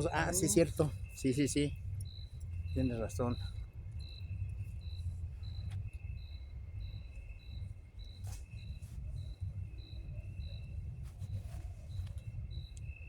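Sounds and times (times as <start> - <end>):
crickets trilling: 0.0 - 13.0
low rumble: 0.0 - 13.0.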